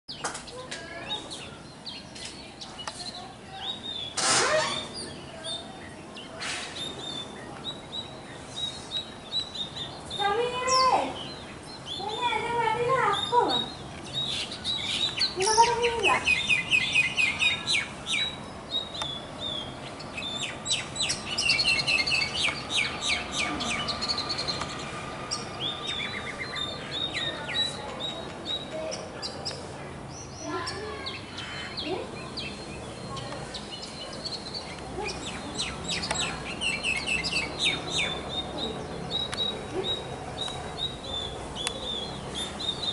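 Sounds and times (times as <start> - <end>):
birds chattering and whistling: 0.1 - 42.9.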